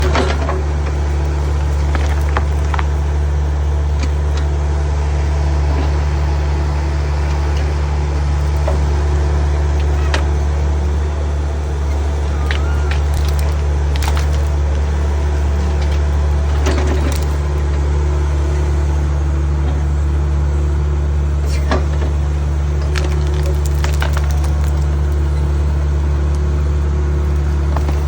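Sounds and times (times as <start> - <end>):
heavy engine humming: 0.0 - 28.0.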